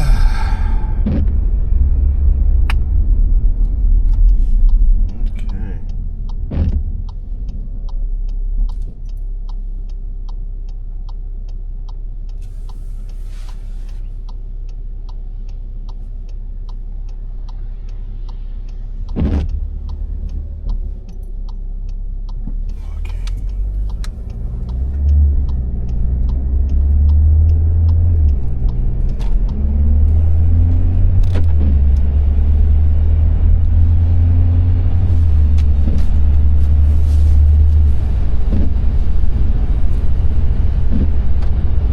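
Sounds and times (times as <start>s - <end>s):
car engine: 0.0s - 41.9s
turn signal ticking: 0.0s - 41.9s.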